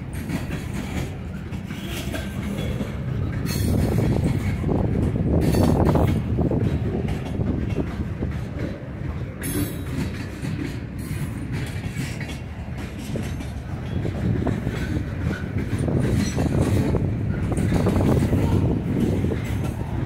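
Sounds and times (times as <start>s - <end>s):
freight train rumbling past: 0.0s - 20.0s
wheels clicking over rail joints: 0.0s - 20.0s.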